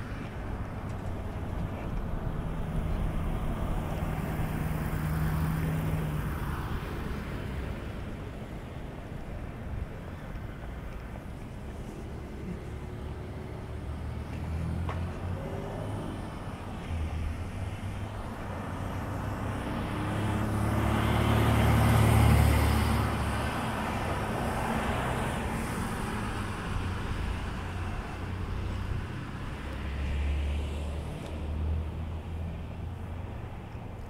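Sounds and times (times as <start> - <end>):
vehicle rumbling by: 0.0 - 34.0.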